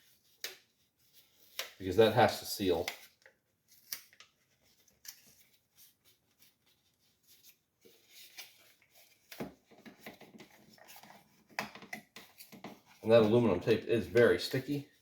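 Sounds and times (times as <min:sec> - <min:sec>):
tape rustling and clicking: 0:00.0 - 0:01.9, 0:02.6 - 0:15.0.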